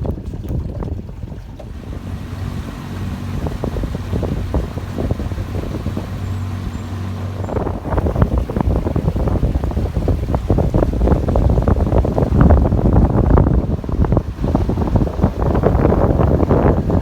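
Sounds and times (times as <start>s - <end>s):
boat motor running: 0.0s - 17.0s
water rushing past: 0.0s - 17.0s
wind buffeting microphone: 0.0s - 17.0s.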